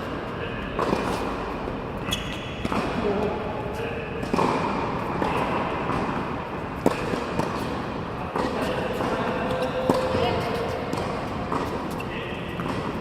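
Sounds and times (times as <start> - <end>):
tennis balls bouncing: 0.0 - 13.0
tennis balls struck by rackets: 0.0 - 13.0.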